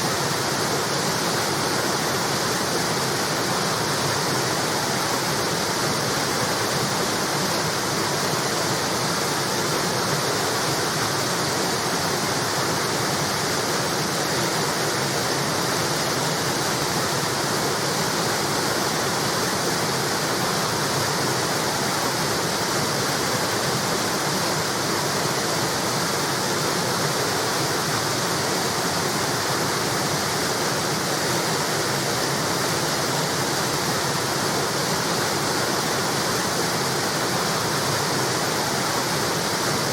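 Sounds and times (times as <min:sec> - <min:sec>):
water rushing over a weir: 0:00.0 - 0:39.9.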